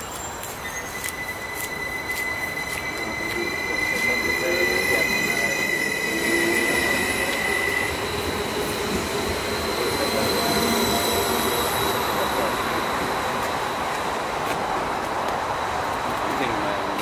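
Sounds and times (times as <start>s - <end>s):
train wheels squealing: 0.0s - 13.8s
train low rumble: 0.0s - 17.0s.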